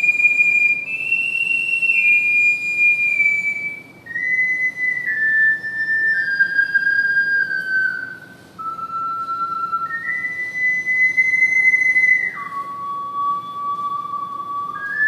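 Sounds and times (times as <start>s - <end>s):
ocarina playing slow melody: 0.0s - 15.0s.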